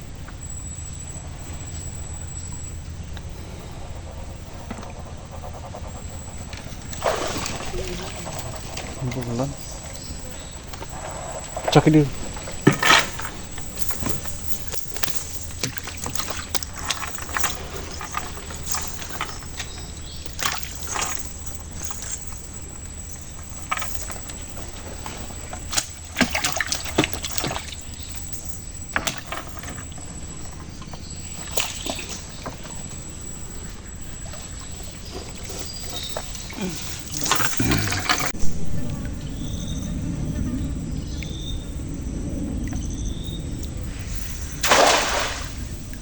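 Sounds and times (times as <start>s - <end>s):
water sloshing and splashing: 2.8s - 39.4s, 43.5s - 46.0s.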